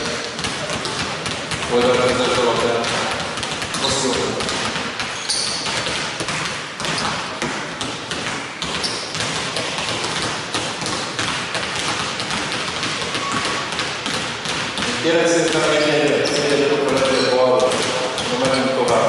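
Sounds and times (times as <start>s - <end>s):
basketballs bouncing on hardwood: 0.0s - 19.0s.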